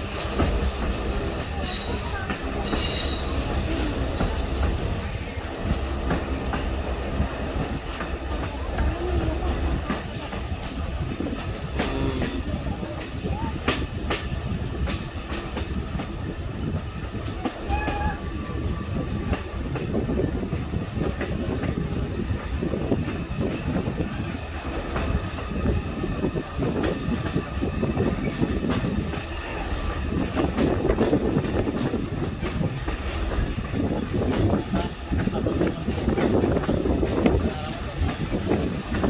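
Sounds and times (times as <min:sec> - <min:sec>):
train car rumbling on track: 0:00.0 - 0:39.0.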